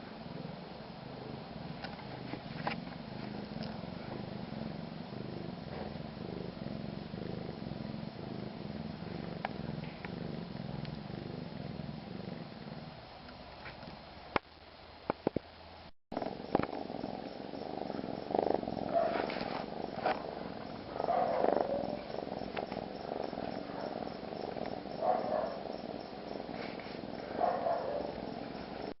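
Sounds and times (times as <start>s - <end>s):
cats purring loudly: 0.0s - 14.2s, 16.1s - 29.0s.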